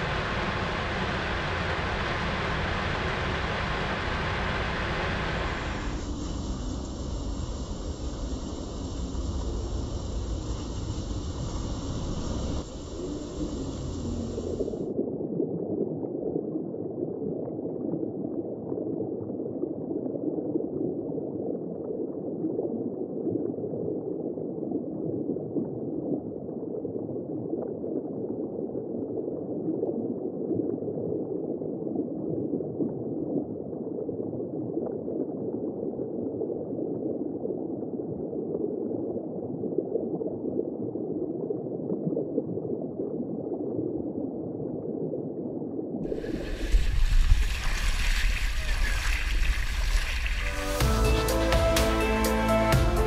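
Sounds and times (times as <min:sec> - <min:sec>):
underwater bubbling water: 0:00.0 - 0:31.0, 0:31.9 - 0:50.6.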